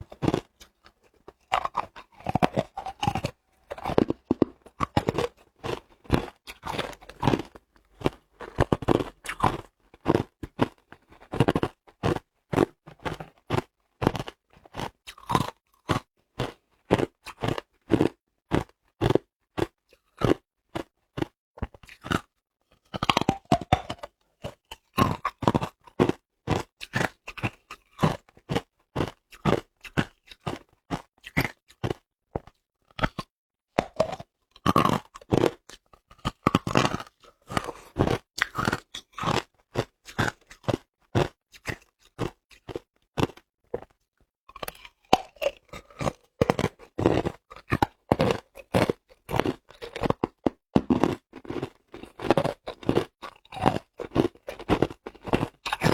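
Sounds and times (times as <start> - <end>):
person chewing hard ice: 0.0 - 55.9.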